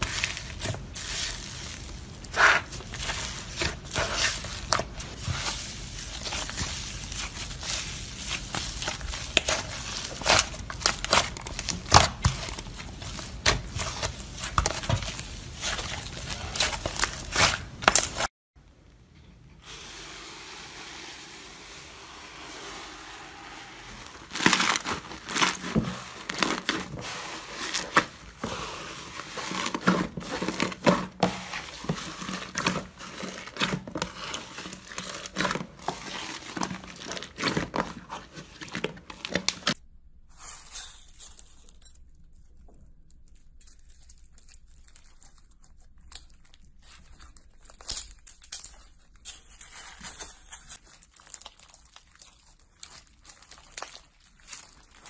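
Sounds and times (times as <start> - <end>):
slime squished with crackling: 0.0 - 18.3, 24.0 - 39.8, 42.4 - 55.0.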